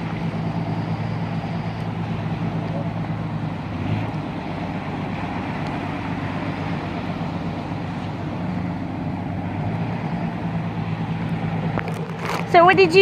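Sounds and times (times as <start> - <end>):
motorboat engine humming: 0.0 - 13.0
wind and water hiss: 0.0 - 13.0.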